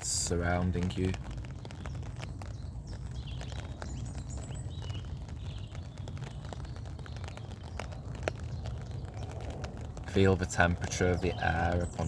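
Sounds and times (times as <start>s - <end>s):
raindrop ticks: 0.0s - 12.0s
wind rumble on microphone: 0.0s - 12.0s
faint bird chirping: 0.8s - 12.0s.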